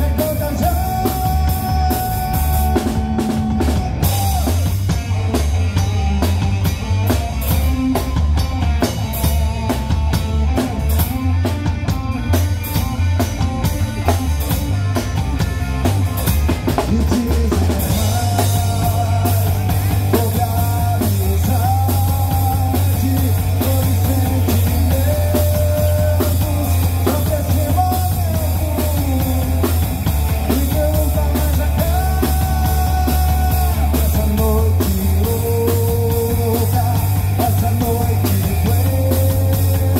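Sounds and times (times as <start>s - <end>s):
bass guitar: 0.0s - 39.9s
drum kit: 0.0s - 39.9s
electric guitar melody: 0.0s - 39.9s.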